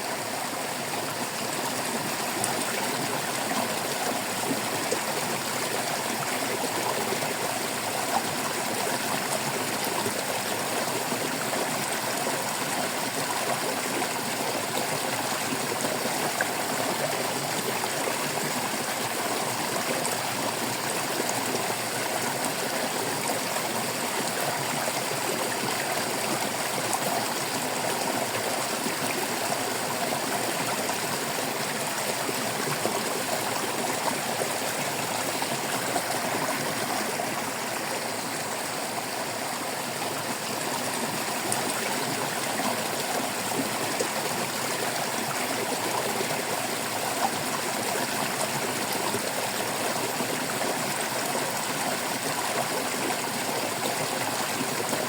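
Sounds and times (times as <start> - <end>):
stream water babbling over stones: 0.0 - 55.0.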